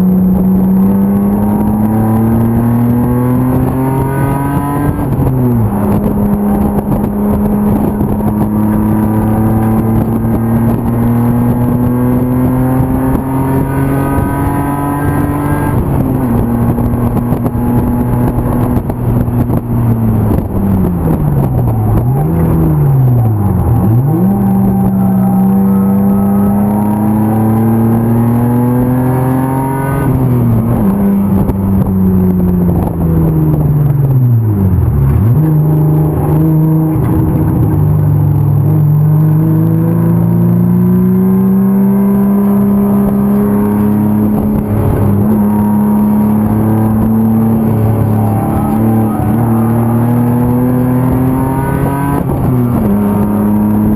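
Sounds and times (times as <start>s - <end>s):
race car engine pulling hard: 0.0s - 53.9s.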